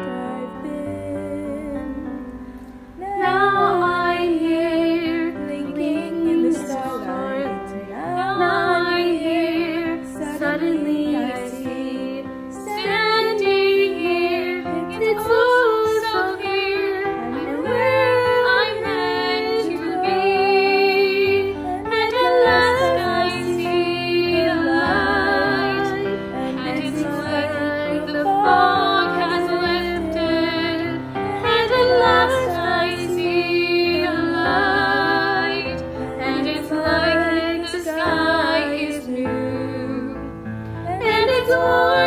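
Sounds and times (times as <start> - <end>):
female voices singing in harmony: 0.0 - 42.0.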